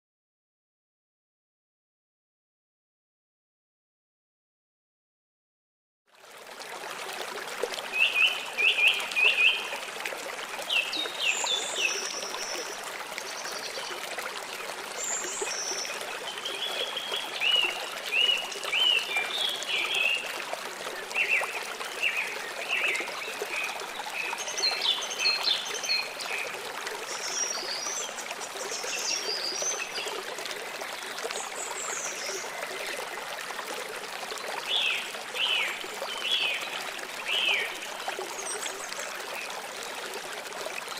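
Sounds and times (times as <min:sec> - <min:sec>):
water flowing and trickling: 0:06.1 - 0:40.9.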